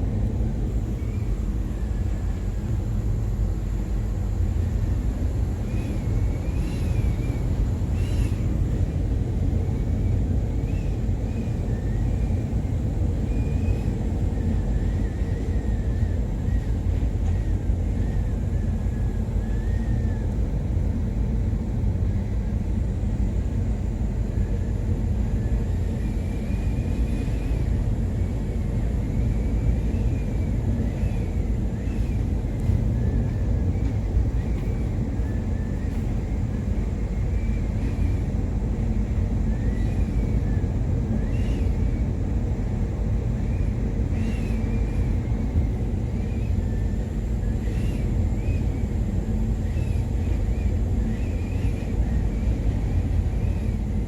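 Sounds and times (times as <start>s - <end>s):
ship low rumble: 0.0s - 54.0s.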